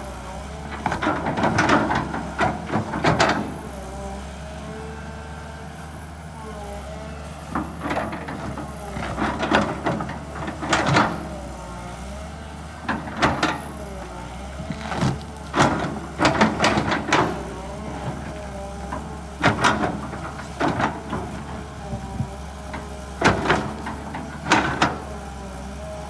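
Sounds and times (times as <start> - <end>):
excavator engine running: 0.1 - 26.0.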